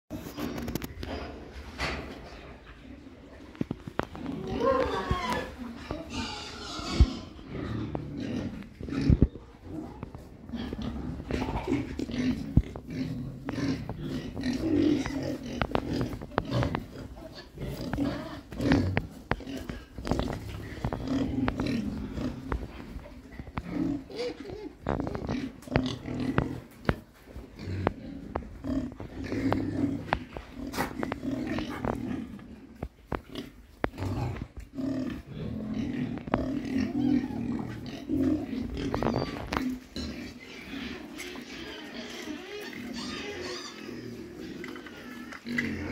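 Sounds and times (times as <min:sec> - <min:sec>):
piglets grunting and snuffling: 0:00.1 - 0:45.9.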